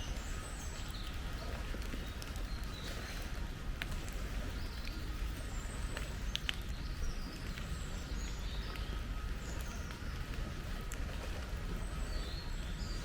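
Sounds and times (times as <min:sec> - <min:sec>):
rain ticks: 0:00.0 - 0:13.0.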